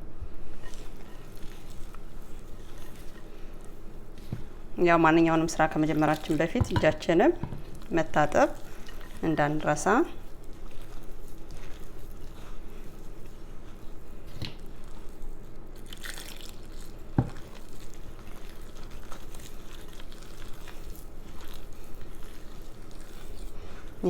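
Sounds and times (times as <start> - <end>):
faint steady hum: 0.0 - 24.0
hands squishing wet dough: 0.6 - 24.0.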